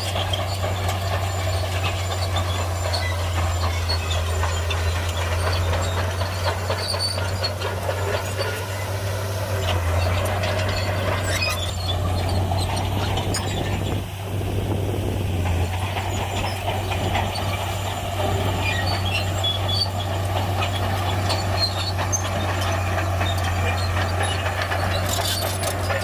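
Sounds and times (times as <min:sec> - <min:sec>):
metallic clinks and squeaks: 0:00.0 - 0:09.0, 0:09.6 - 0:14.0, 0:16.0 - 0:26.0
bulldozer diesel engine humming: 0:00.0 - 0:26.0.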